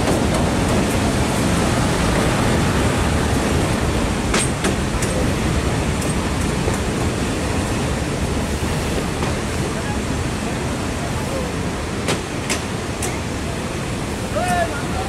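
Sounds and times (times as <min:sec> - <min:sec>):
train rumble and rushing: 0:00.0 - 0:15.0.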